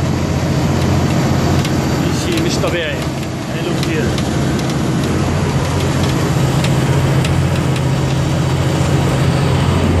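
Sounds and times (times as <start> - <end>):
car engine and tyre drone: 0.0 - 10.0.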